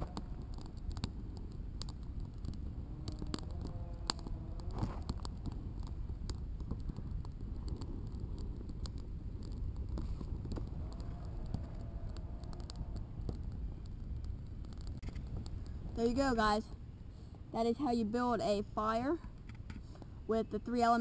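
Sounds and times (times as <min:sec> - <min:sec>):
campfire crackling and popping: 0:00.0 - 0:21.0
low steady fire rumble: 0:00.0 - 0:21.0.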